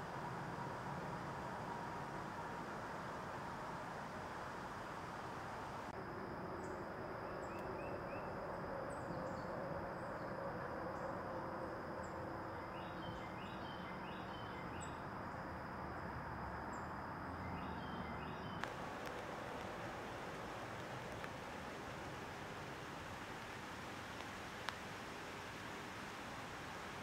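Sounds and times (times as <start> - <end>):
high insect drone: 0.0 - 27.0
low rumble of background noise: 0.0 - 27.0.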